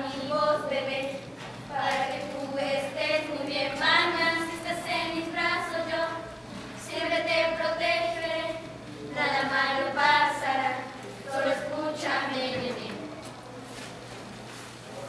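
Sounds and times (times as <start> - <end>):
children singing: 0.0 - 12.9.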